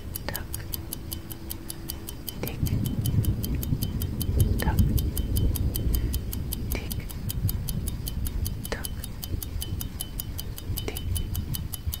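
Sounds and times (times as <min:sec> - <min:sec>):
clock ticking quickly: 0:00.0 - 0:12.0
low rumble: 0:00.0 - 0:12.0.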